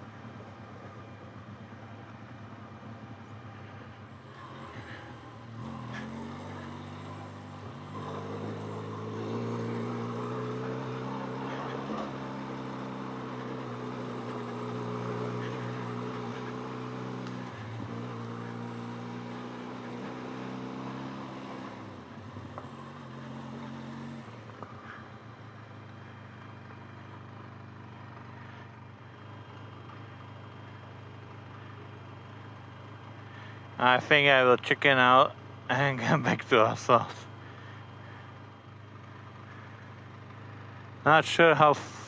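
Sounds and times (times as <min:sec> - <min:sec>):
motorcycle engine under throttle: 0:00.0 - 0:42.0.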